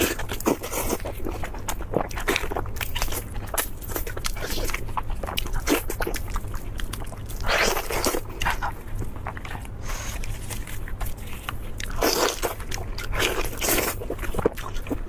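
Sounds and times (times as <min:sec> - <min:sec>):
crunchy biting and chewing: 0:00.0 - 0:15.0.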